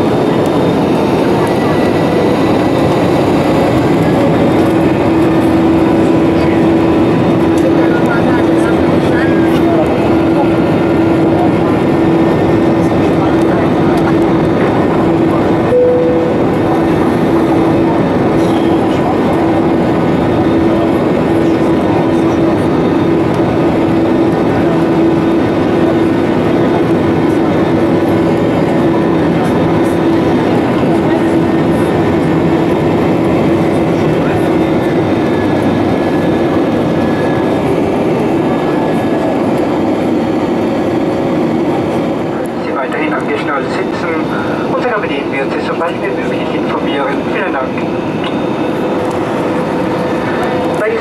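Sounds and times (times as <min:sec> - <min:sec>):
constant hum: 0:00.0 - 0:51.0
jet engine cabin noise: 0:00.0 - 0:51.0
steady engine tone: 0:00.0 - 0:51.0.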